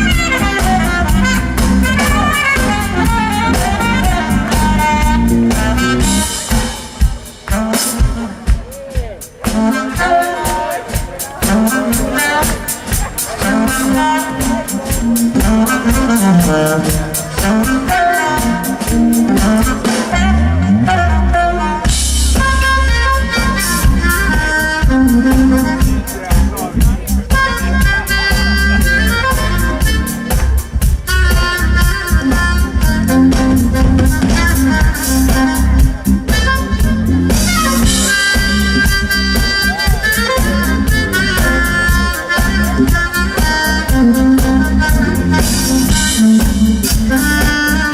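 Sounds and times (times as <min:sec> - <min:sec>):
bass: 0:00.0 - 0:47.9
drums keeping a steady beat: 0:00.0 - 0:47.9
smooth jazz band playing: 0:00.0 - 0:47.9.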